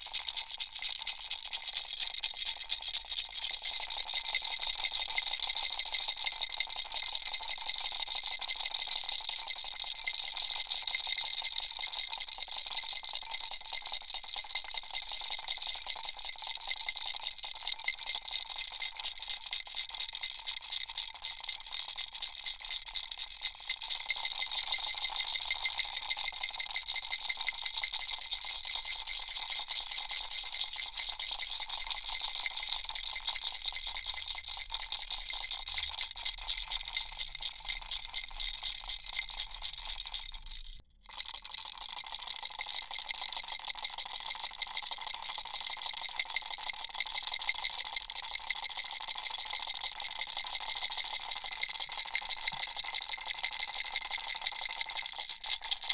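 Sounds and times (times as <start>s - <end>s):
baby rattle shaken: 0.0s - 55.9s.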